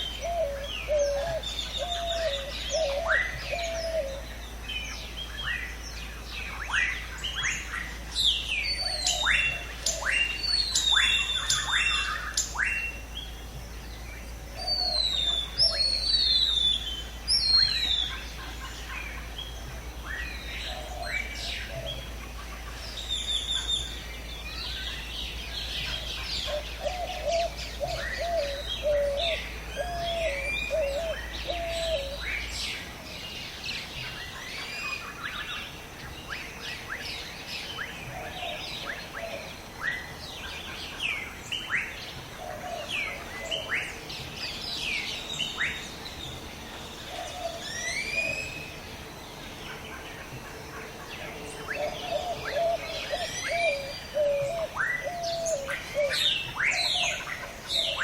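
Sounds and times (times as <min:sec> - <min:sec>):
lower repeated bird call: 0:00.0 - 0:58.0
many birds chirping: 0:00.0 - 0:58.0.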